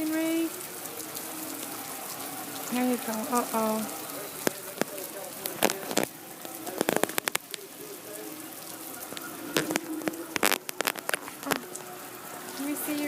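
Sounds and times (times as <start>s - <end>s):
sharp taps and drips: 0.0s - 13.0s
steady rain hiss: 0.0s - 13.0s.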